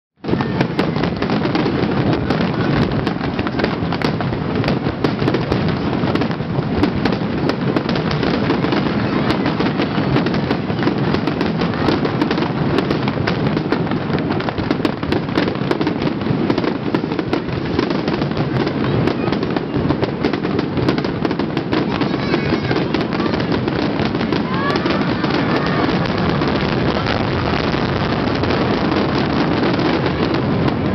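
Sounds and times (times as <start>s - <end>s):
fireworks bangs and crackling: 0.2s - 30.9s.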